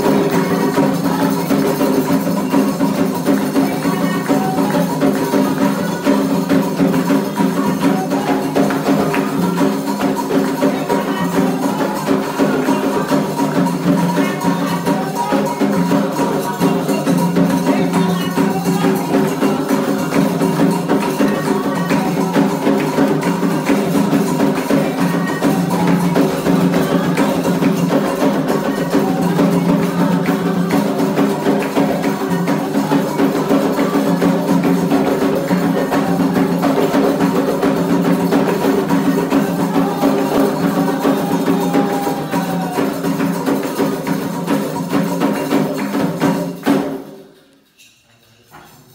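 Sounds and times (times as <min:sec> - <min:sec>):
fast drum rhythm: 0:00.0 - 0:47.3.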